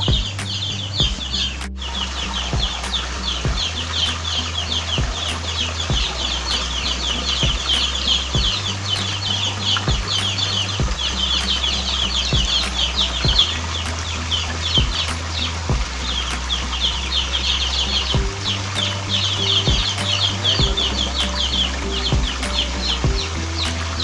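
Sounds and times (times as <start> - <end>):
birds chirping: 0.0 - 24.0
low hum: 0.0 - 24.0.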